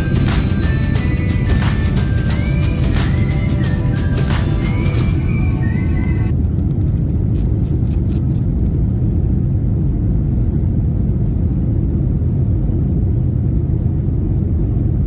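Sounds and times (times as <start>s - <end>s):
airliner cabin jet engine rumble: 0.0s - 15.0s.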